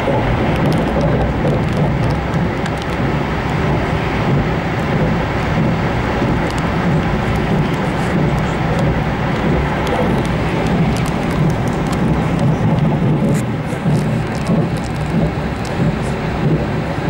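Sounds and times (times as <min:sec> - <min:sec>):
train running noise inside carriage: 0:00.0 - 0:17.0.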